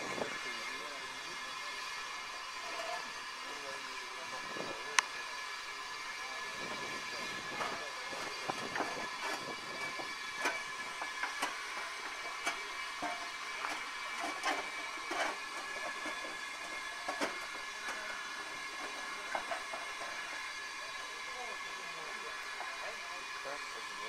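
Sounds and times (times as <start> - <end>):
steam hissing: 0.0 - 24.0.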